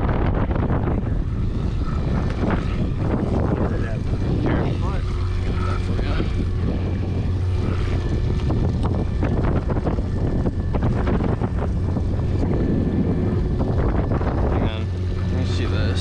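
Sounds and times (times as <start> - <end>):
boat motor humming: 0.0 - 16.0
wind buffeting microphone: 0.0 - 16.0.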